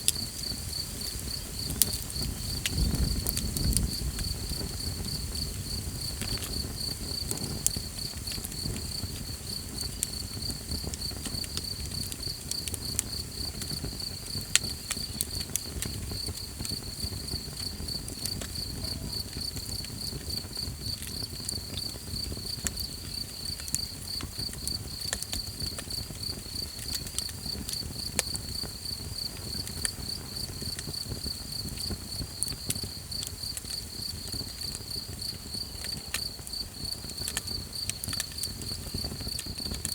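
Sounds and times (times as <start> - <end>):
campfire crackling and popping: 0.0 - 39.9
low rumble of burning: 0.0 - 39.9
night insects trilling: 0.0 - 39.9.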